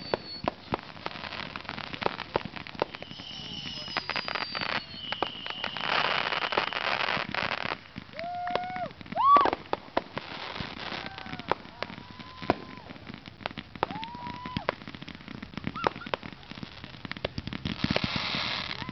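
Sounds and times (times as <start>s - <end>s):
firework whistles: 0.0s - 13.2s, 13.8s - 16.5s, 17.6s - 18.9s
firework bangs and pops: 0.0s - 18.9s
firework crackling burst: 0.0s - 18.9s
rising-and-falling firework whoops: 0.0s - 18.9s.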